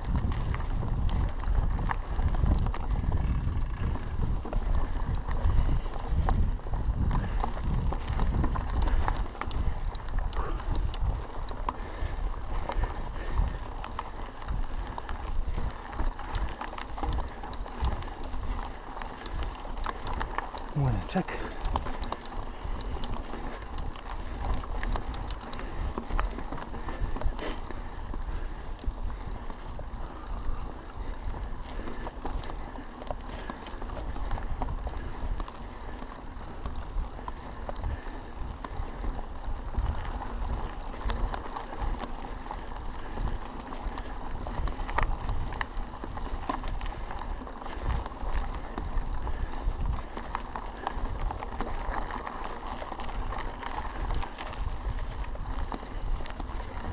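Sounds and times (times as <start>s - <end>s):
bike clicks and rattles: 0.0s - 56.9s
tyres crunching over gravel: 0.0s - 56.9s
wind buffeting microphone: 0.0s - 56.9s.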